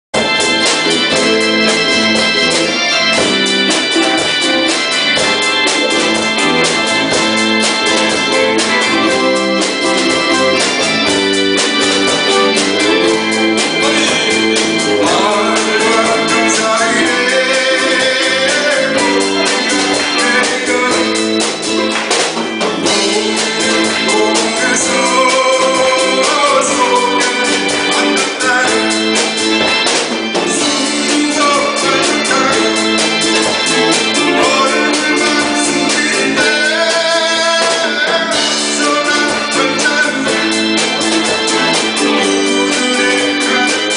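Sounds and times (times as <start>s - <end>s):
electronic organ keyboard: 0.1s - 43.9s
live band playing pop song: 0.1s - 43.9s
steady drum beat: 0.2s - 43.9s.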